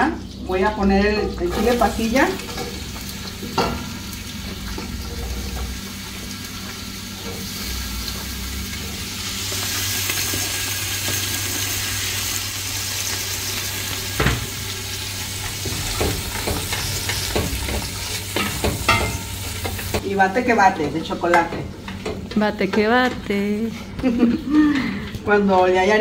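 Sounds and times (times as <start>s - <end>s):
chiles sizzling in a pot: 0.0s - 23.2s, 23.8s - 26.0s.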